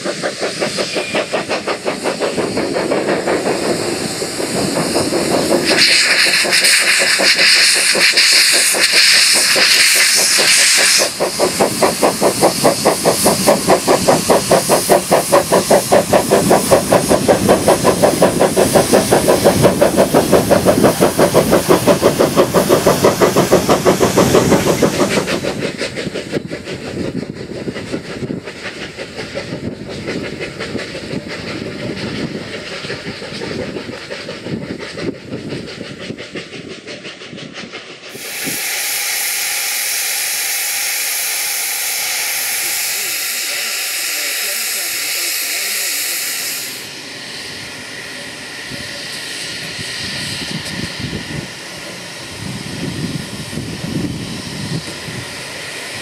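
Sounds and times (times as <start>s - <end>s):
steam hissing: 0.0s - 56.0s
steam locomotive exhaust beats: 0.0s - 56.0s.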